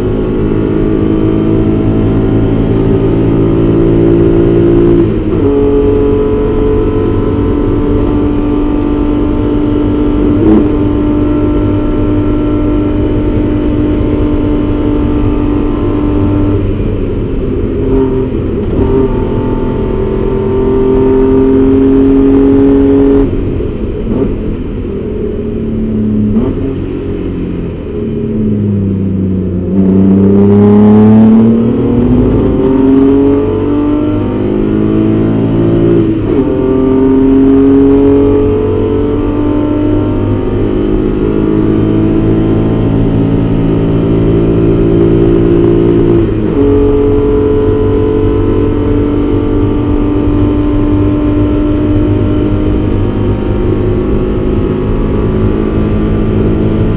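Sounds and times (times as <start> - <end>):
race car engine at full throttle: 0.0 - 56.9.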